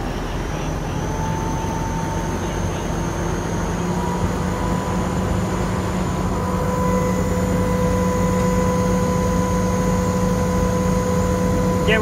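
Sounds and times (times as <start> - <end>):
diesel engine drone: 0.0 - 12.0
pump whine: 0.0 - 12.0.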